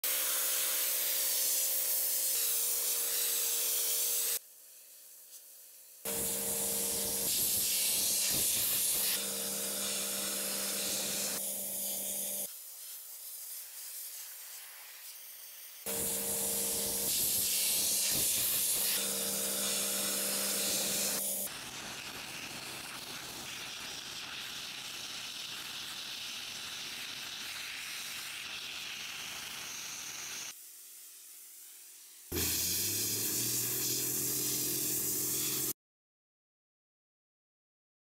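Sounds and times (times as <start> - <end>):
blasting nozzle hissing: 0.1 - 4.4, 6.1 - 35.7.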